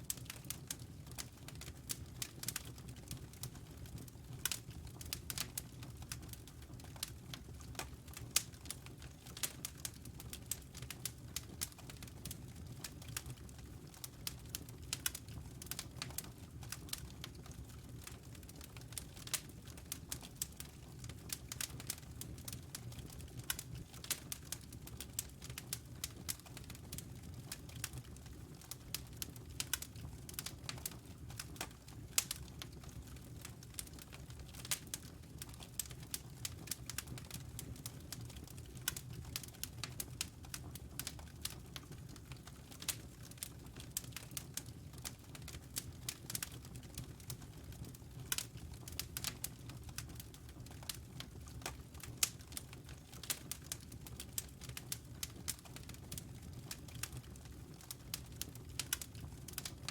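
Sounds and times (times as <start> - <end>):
low rumble of burning logs: 0.0 - 59.9
wood fire crackling and popping: 0.0 - 59.9.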